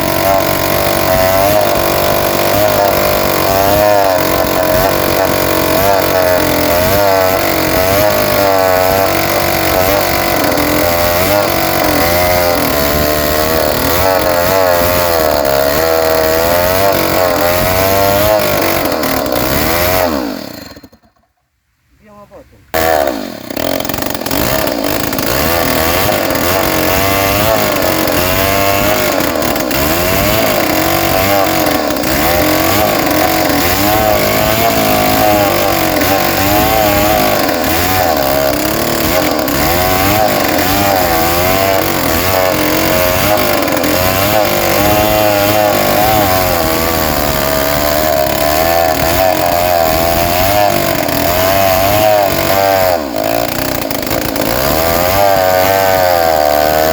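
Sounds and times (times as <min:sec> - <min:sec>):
chainsaw cutting through log: 0:00.0 - 0:21.3, 0:22.7 - 0:56.9.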